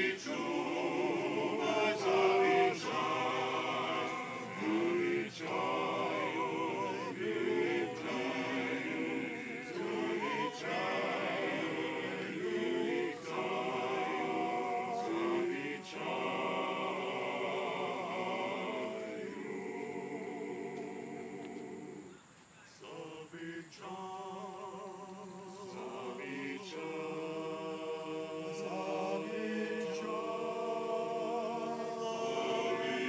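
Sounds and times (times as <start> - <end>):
men's choir singing a cappella: 0.0 - 33.0.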